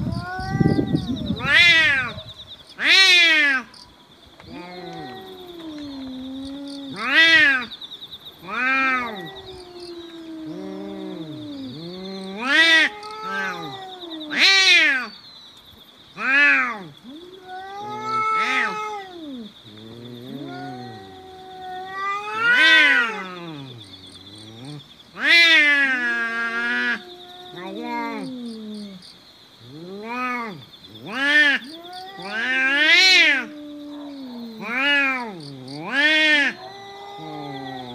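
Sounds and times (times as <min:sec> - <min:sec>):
cats yowling in a fight: 0:00.0 - 0:02.2, 0:04.4 - 0:07.7, 0:08.4 - 0:15.1, 0:16.2 - 0:29.0, 0:29.6 - 0:37.9.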